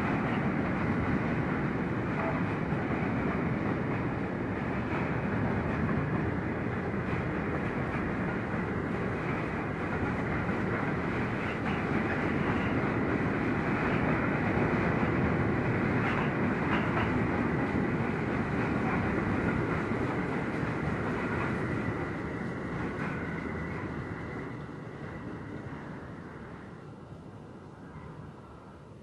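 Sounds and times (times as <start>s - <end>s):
freight train wheels clacking: 0.0s - 24.6s.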